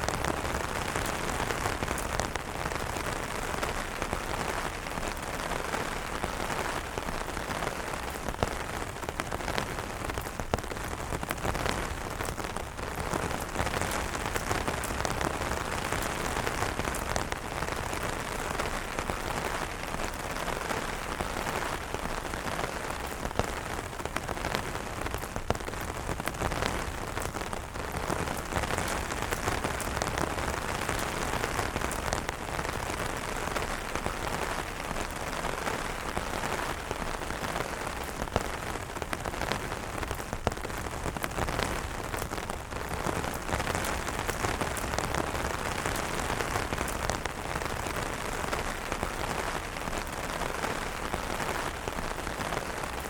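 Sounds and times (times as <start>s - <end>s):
rain on umbrellas: 0.0s - 53.0s.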